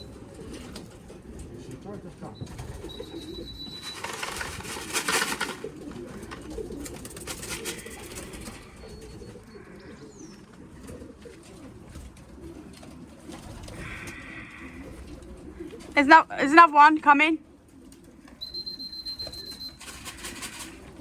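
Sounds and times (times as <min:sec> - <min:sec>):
pigeons cooing: 0:00.0 - 0:16.8, 0:17.4 - 0:21.0.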